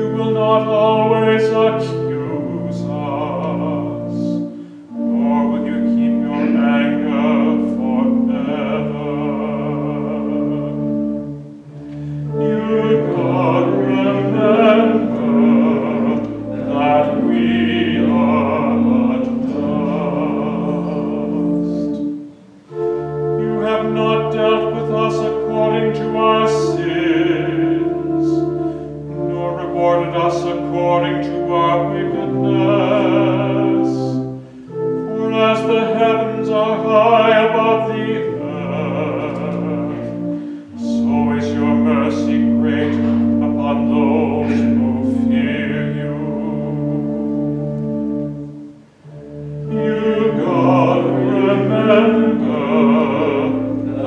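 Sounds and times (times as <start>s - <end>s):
church organ chords: 0.0s - 54.0s
person singing with vibrato: 0.0s - 54.0s.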